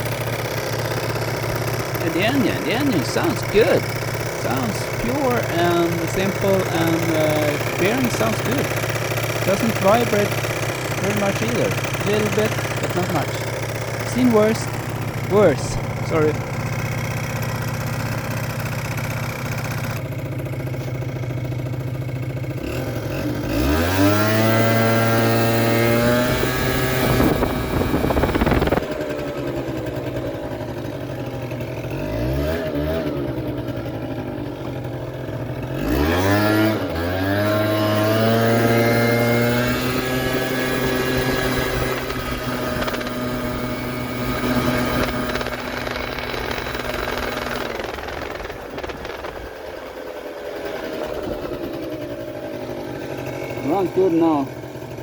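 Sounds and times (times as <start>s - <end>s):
scooter engine idling and revving: 0.0s - 55.0s.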